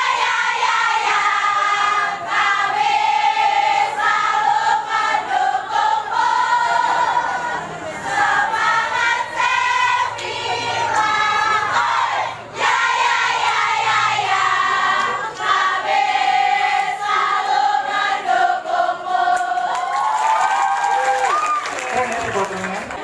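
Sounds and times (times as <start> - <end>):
crowd singing in unison: 0.0 - 20.1.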